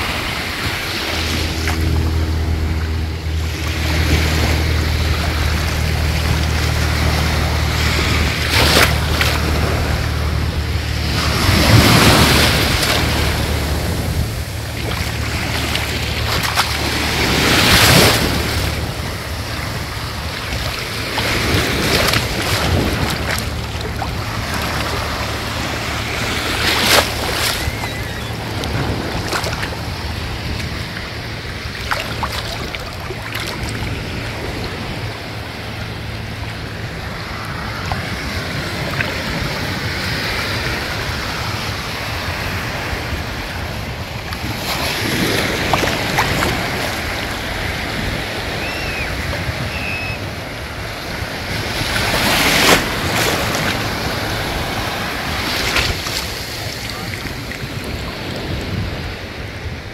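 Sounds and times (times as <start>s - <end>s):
wavelets splashing: 0.0s - 50.5s
small waves lapping on shore: 0.0s - 59.9s
wind rumble on microphone: 0.0s - 59.9s.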